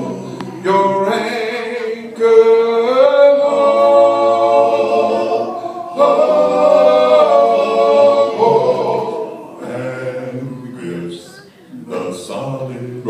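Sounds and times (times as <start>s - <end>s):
a cappella group singing gospel: 0.0s - 13.0s.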